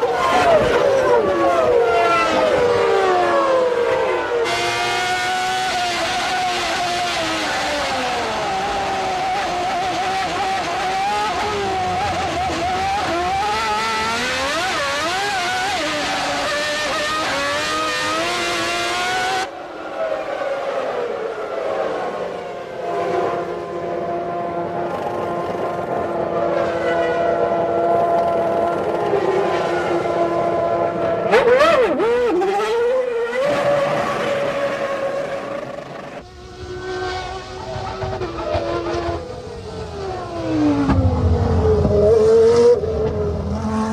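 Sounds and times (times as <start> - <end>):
racing car engines at high revs: 0.0 - 43.9.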